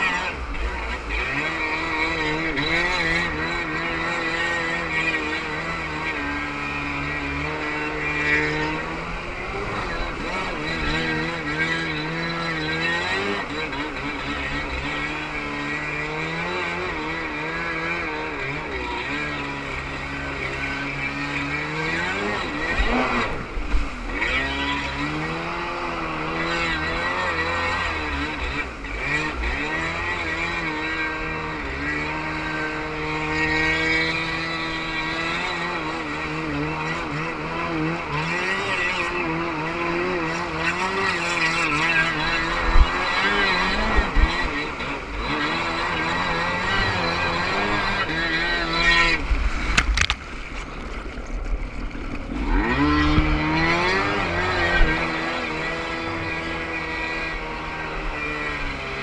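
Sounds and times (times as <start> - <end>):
jet ski engine revving: 0.0 - 59.0.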